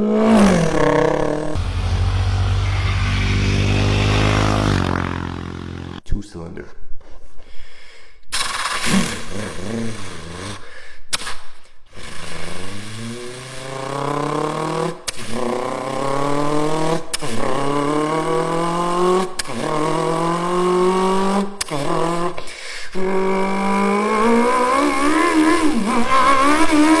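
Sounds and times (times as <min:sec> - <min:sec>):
motorcycle engine accelerating: 0:00.0 - 0:06.0, 0:08.4 - 0:10.6, 0:12.0 - 0:27.0.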